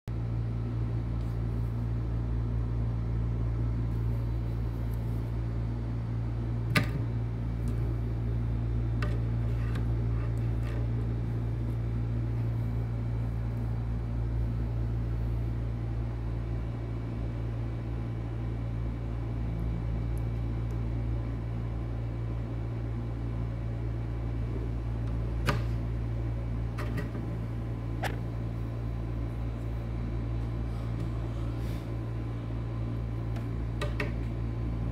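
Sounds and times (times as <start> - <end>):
low mechanical hum: 0.1 - 34.9.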